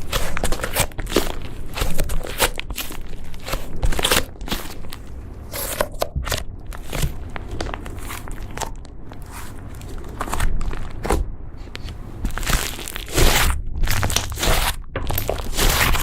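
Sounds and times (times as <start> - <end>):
slime crackling and squishing: 0.0 - 16.0.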